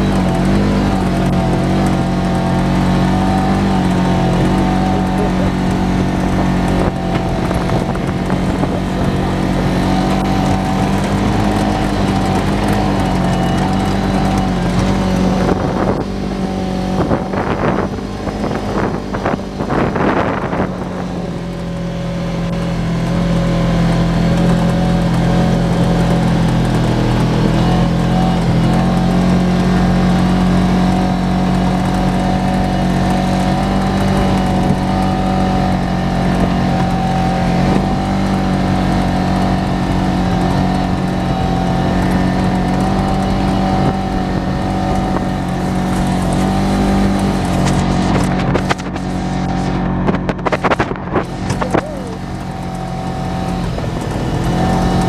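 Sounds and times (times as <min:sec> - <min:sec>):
bumping and rattling: 0:00.0 - 0:55.0
utility vehicle engine running: 0:00.0 - 0:55.0.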